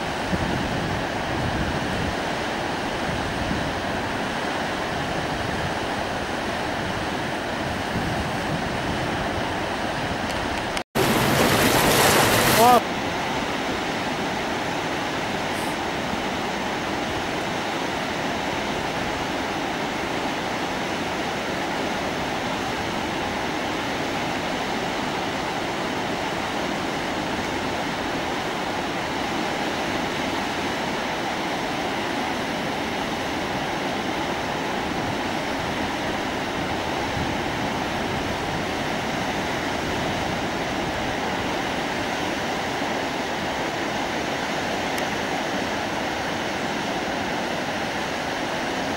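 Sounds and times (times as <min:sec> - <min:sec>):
river rushing: 0:00.0 - 0:48.9.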